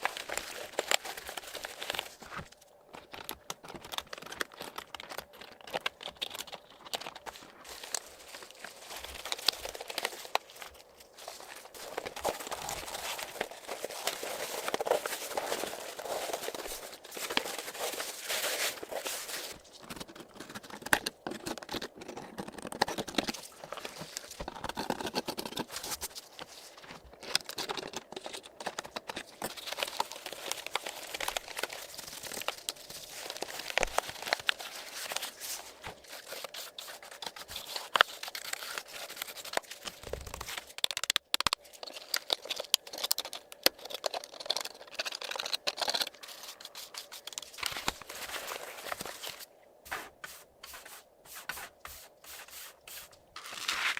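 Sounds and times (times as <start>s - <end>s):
scrubbing and rustling on keyboard: 0.0s - 53.9s.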